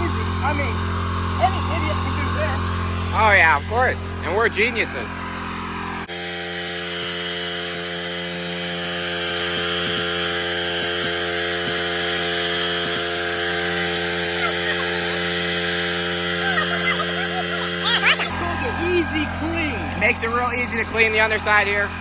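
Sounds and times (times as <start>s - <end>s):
pressure washer engine running: 0.0s - 22.0s.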